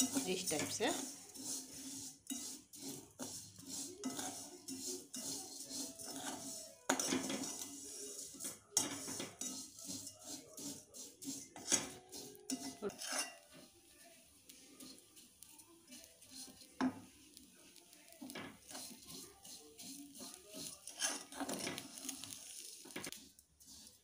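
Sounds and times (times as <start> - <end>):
metal spoon scraping a metal pan: 0.0 - 13.7, 14.7 - 17.0, 18.3 - 24.0.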